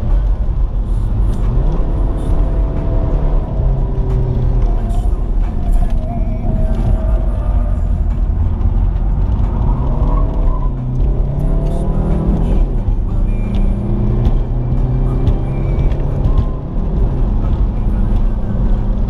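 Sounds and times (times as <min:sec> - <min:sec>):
car engine at speed: 0:00.0 - 0:19.0
road and wind noise: 0:00.0 - 0:19.0.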